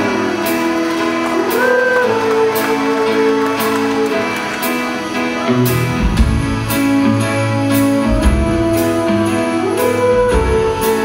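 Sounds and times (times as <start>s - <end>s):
keyboard: 0.0s - 11.0s
melody line: 0.0s - 11.0s
plucked guitar chords: 0.0s - 11.0s.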